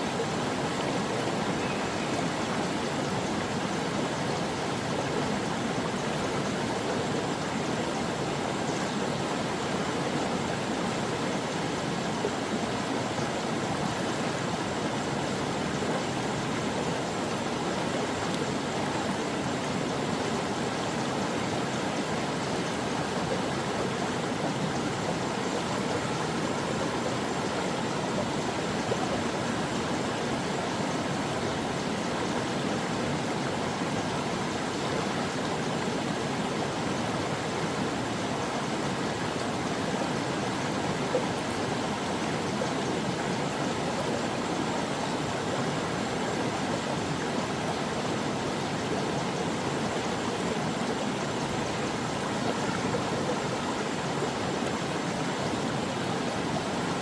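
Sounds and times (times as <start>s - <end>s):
brook water flowing over rocks: 0.0s - 57.0s.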